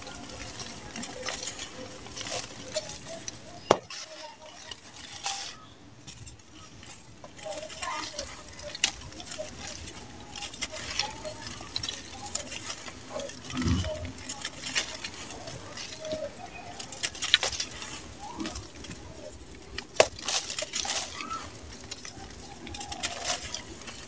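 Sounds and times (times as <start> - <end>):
cement lumps crunching by hand: 0.0 - 24.0
falling grit patter: 0.0 - 24.0.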